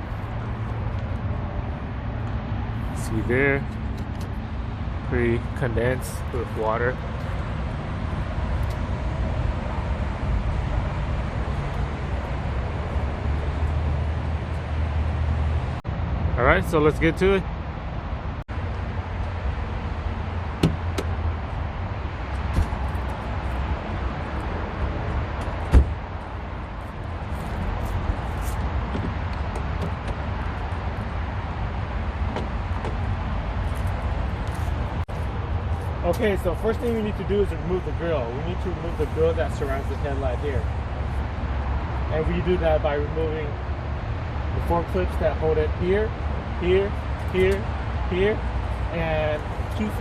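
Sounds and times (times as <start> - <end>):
outdoor background rumble: 0.0 - 50.0.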